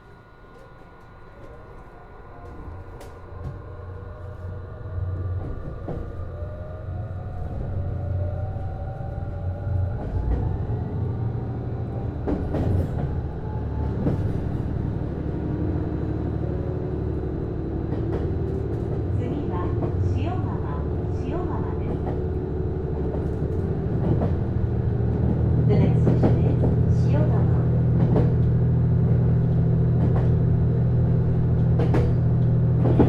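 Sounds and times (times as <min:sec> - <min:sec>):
train low rumble: 0:00.0 - 0:33.0.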